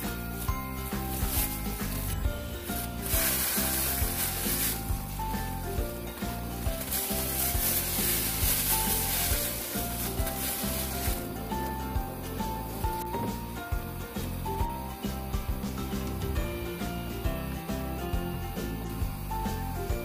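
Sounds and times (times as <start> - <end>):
background music with a beat: 0.0 - 20.0
broth boiling in a pot: 0.0 - 20.0.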